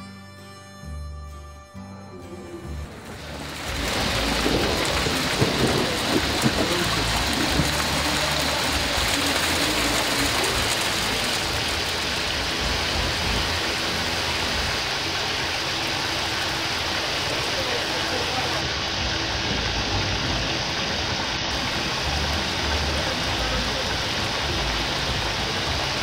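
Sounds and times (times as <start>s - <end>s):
heavy rain pouring: 2.2s - 26.0s.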